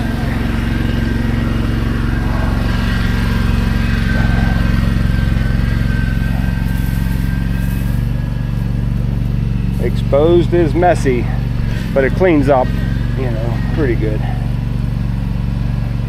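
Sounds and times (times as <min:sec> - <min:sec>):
faint high whine: 0:00.0 - 0:15.9
small engine running: 0:00.0 - 0:16.0.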